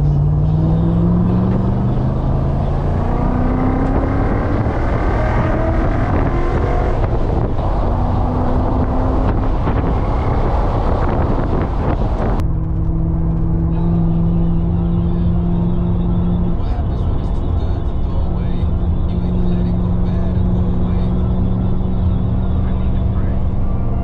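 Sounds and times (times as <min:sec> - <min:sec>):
car engine accelerating: 0:00.0 - 0:24.0
road and wind noise: 0:00.0 - 0:24.0.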